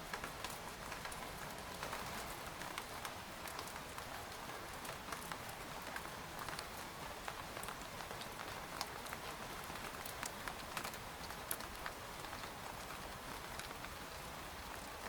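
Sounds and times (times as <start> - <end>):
light rain on a tent: 0.0 - 15.0.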